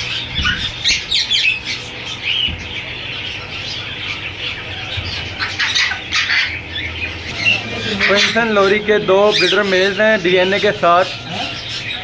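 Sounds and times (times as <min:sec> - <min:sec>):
parrots squawking and chirping: 0:00.0 - 0:12.0
steady low hum: 0:00.0 - 0:12.0.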